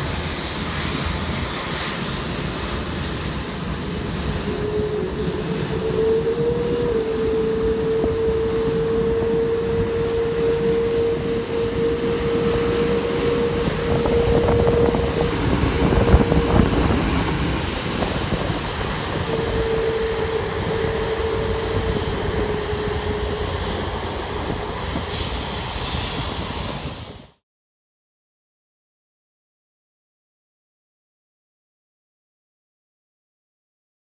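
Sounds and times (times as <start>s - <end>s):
jet engines rumbling with whine: 0.0s - 27.4s.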